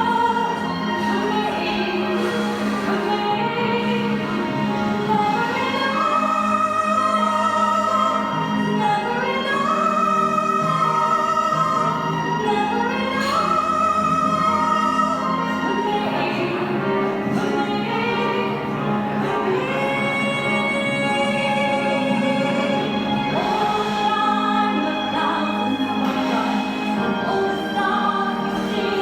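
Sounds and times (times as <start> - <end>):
operatic classical music: 0.0 - 29.0.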